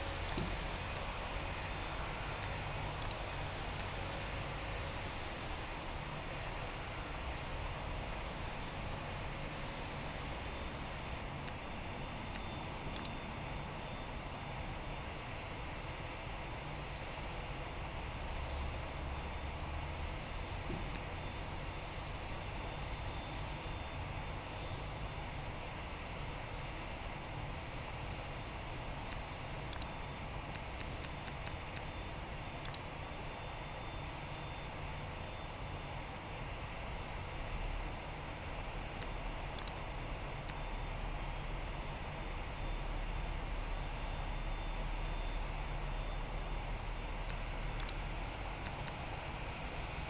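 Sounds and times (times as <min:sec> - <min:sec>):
jet airliner engines running: 0:00.0 - 0:50.0.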